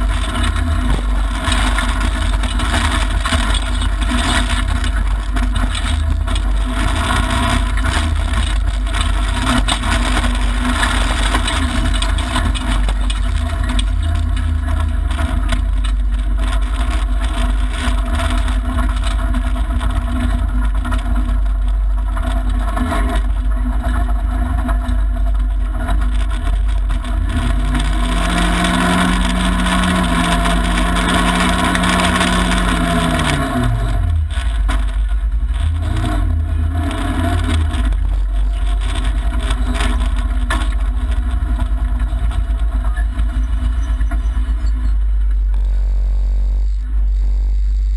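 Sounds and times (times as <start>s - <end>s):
tyres on gravel: 0.0s - 47.0s
rally car engine running hard: 0.0s - 47.9s.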